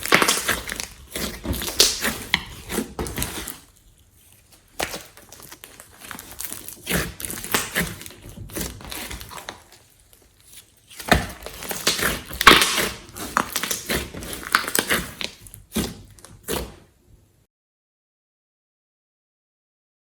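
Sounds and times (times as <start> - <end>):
hands squishing slime: 0.0 - 16.8.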